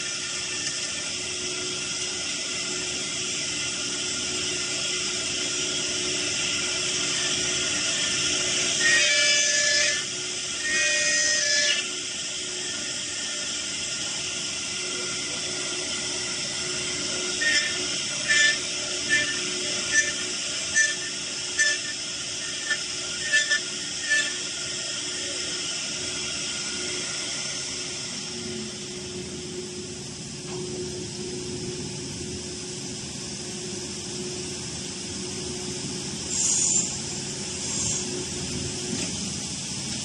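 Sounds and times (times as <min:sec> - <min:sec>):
machine humming: 0:00.0 - 0:40.0.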